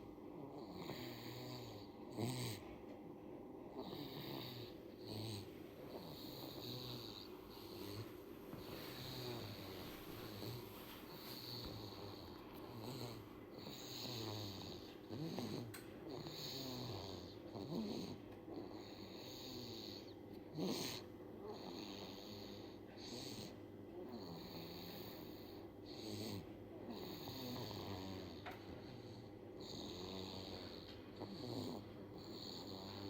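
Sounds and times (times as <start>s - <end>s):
baby snoring: 0.3s - 2.7s, 3.7s - 33.0s.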